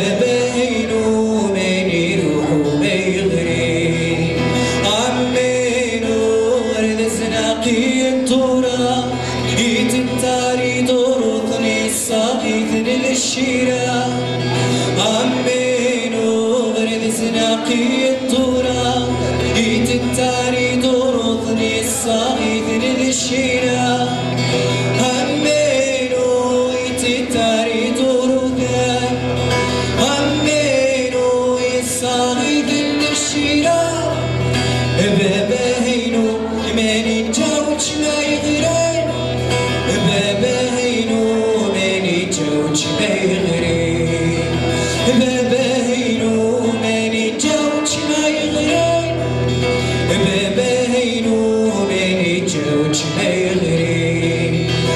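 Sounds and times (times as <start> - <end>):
man singing: 0.0 - 54.9
strummed acoustic guitar: 0.0 - 54.9.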